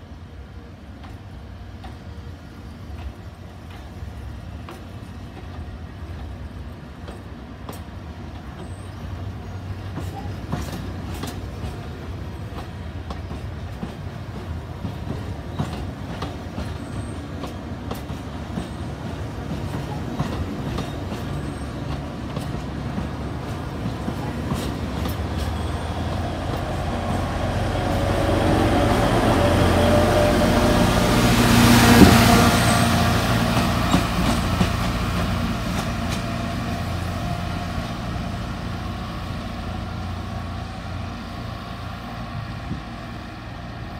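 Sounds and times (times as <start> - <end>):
diesel locomotive engine rumble: 0.0 - 43.9
clicking train wheels: 0.6 - 41.1.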